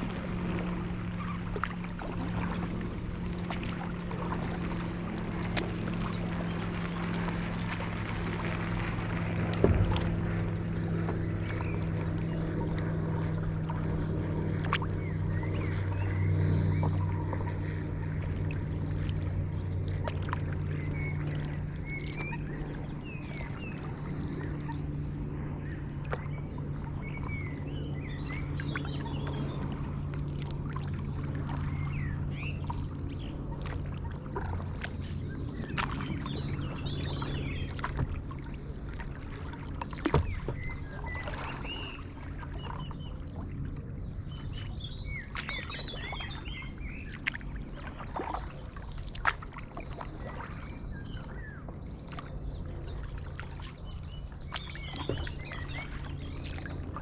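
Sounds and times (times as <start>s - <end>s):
paddle dipping through water: 0.0s - 57.0s
steady low hum: 0.0s - 57.0s.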